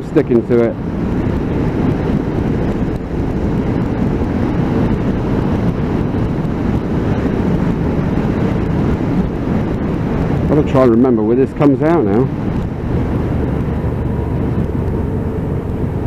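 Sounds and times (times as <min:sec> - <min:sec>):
wind and road noise in helmet: 0:00.0 - 0:16.0.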